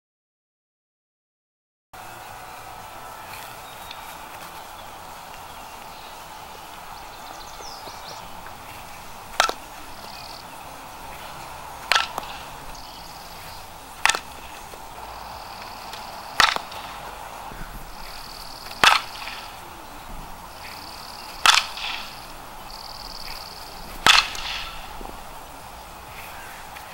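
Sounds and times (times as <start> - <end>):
bat striking softballs: 2.6 - 26.9.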